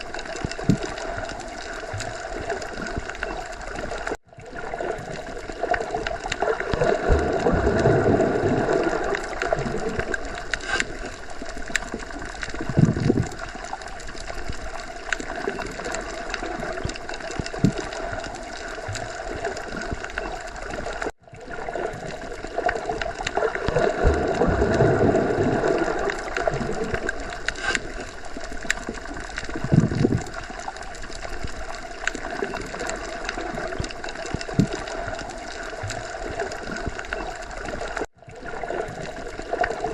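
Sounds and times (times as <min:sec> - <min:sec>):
underwater watery rush: 0:00.0 - 0:39.9.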